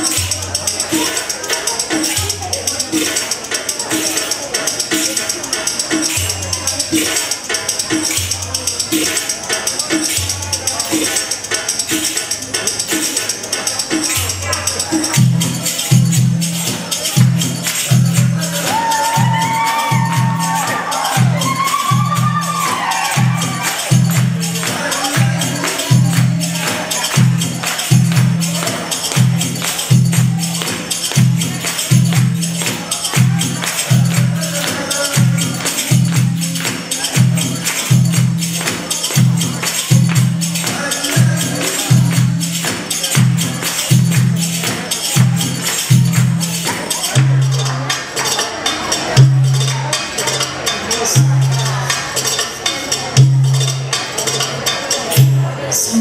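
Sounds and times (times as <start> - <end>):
high tapping and jingling percussion: 0.0 - 56.0.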